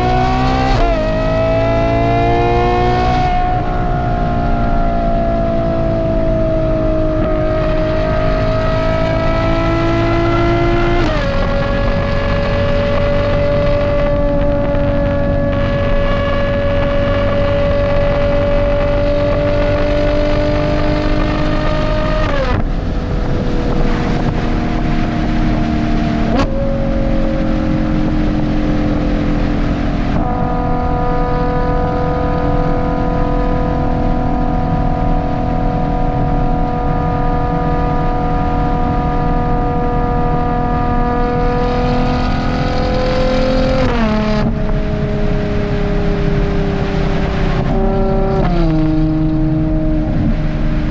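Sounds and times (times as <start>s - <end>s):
car engine shifting gears: 0.0s - 50.9s.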